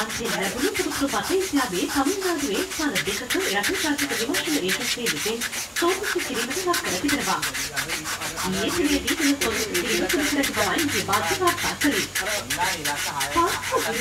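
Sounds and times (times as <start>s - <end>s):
sandpaper rubbing on wood: 0.0s - 14.0s.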